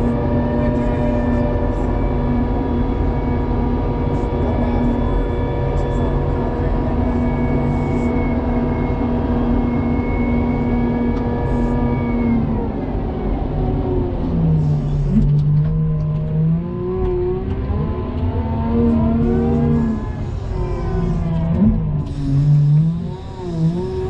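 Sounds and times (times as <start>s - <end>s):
snow plow engine running: 0.0s - 24.0s.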